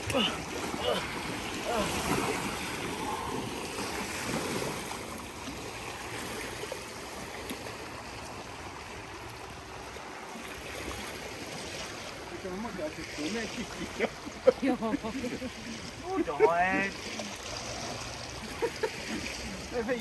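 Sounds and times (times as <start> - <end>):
rushing flowing water: 0.0 - 20.0.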